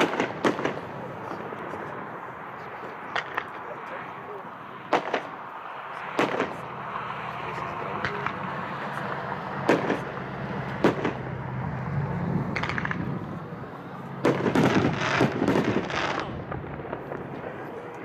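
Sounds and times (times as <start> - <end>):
fireworks bursts and crackle: 0.0 - 18.0
sharp firework reports: 0.0 - 18.0.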